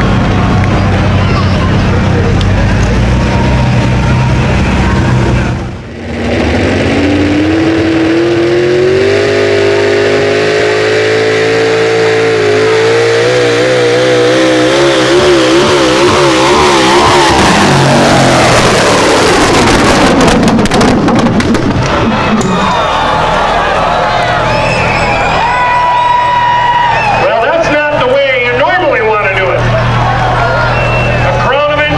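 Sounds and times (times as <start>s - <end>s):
tractor engine revving hard: 0.0s - 31.9s.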